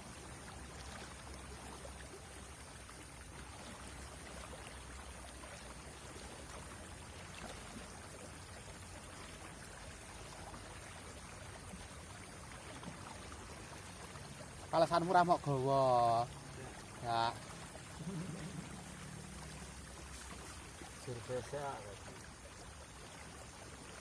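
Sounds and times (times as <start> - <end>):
river water running over stones: 0.0 - 24.0.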